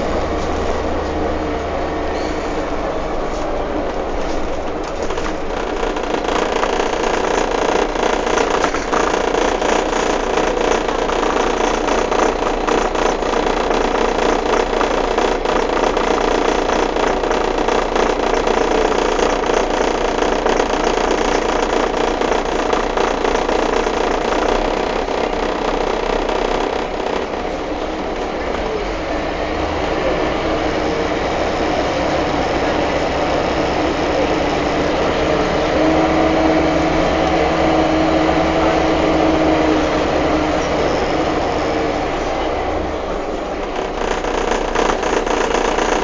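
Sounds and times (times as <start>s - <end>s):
diesel engine drone: 0.0s - 46.0s.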